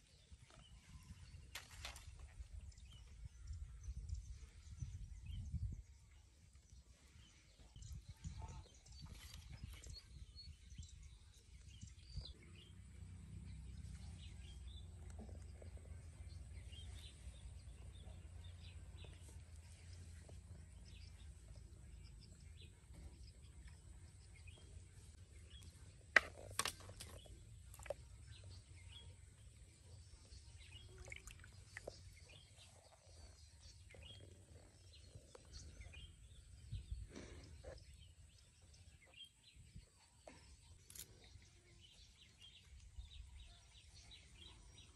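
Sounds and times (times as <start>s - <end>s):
faint bird chirps: 0.2s - 44.9s.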